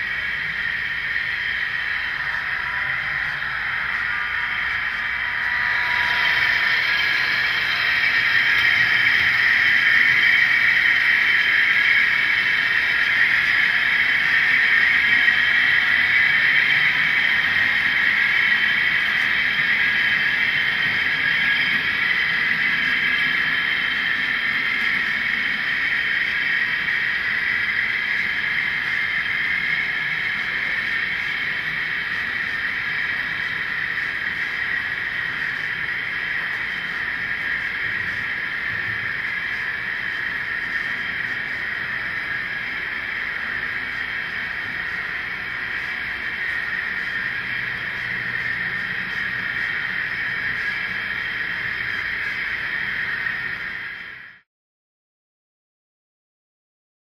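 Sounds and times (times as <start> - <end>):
model train running on rails: 0.0 - 54.4.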